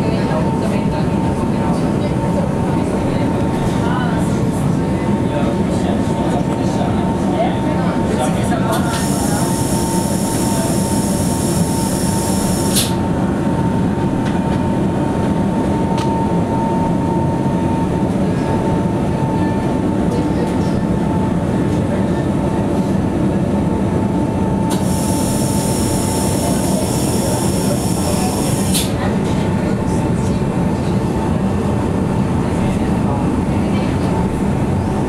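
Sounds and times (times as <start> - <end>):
train running rumble: 0.0 - 35.0.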